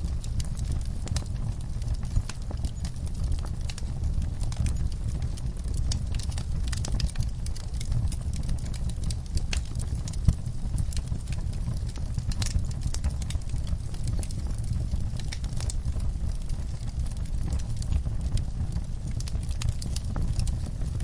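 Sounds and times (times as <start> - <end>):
fire crackles and pops: 0.0 - 21.0
fire rumbling: 0.0 - 21.0.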